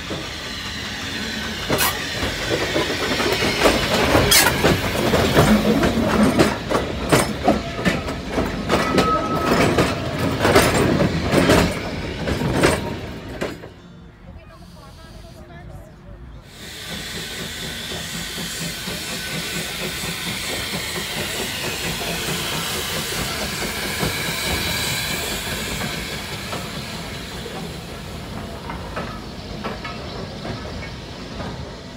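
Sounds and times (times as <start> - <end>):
steam hissing: 0.0 - 13.4, 14.5 - 15.7, 16.4 - 31.9
low rumble of train: 0.0 - 31.9.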